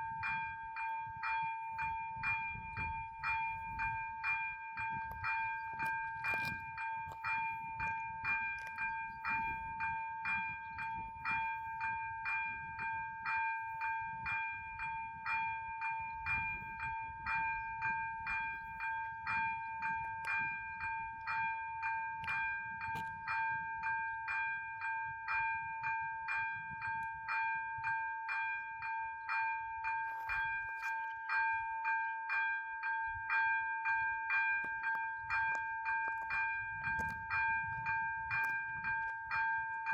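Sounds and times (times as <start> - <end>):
level crossing warning bell ringing: 0.0 - 39.9.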